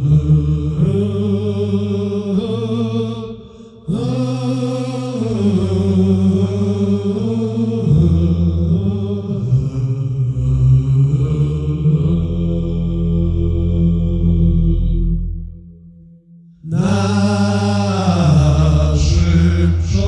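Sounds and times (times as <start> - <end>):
male voices chanting low notes: 0.0 - 20.0.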